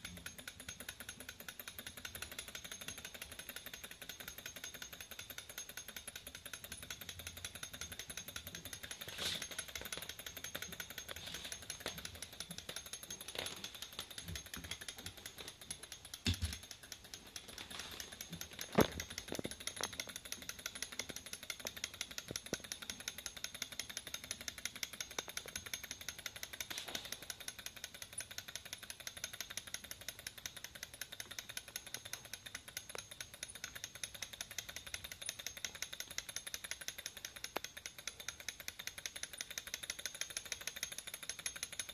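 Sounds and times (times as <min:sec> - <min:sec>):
model engine clattering: 0:00.0 - 0:41.9.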